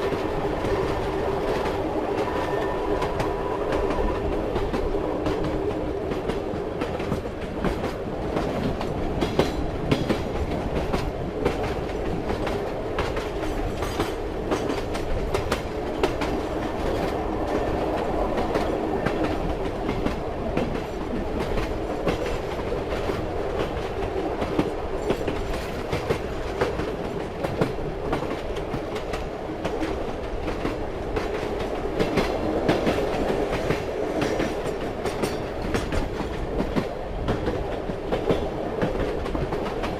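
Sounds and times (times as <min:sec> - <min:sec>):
train carriage rumble: 0:00.0 - 0:39.9
wheels clacking over rail joints: 0:00.0 - 0:39.9.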